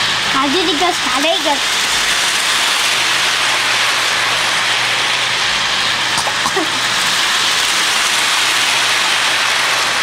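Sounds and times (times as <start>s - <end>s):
toy train whirring on rails: 0.0s - 10.0s.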